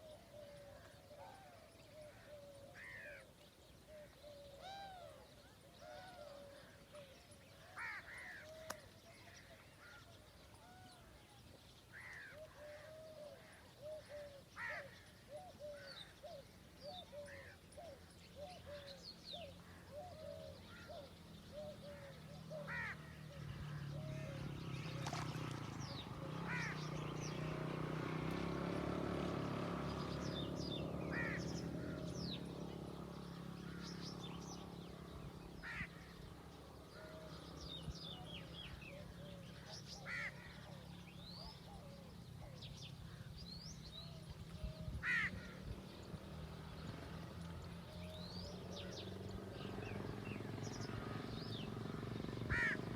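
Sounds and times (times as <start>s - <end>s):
birds calling: 0.0s - 52.9s.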